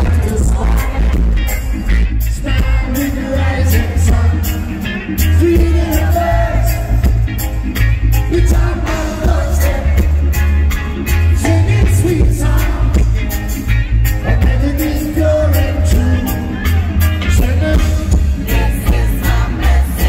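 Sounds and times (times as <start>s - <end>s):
man singing into a microphone: 0.0s - 1.4s, 2.3s - 7.2s, 8.2s - 10.3s, 11.3s - 20.0s
reggae band playing: 0.0s - 20.0s.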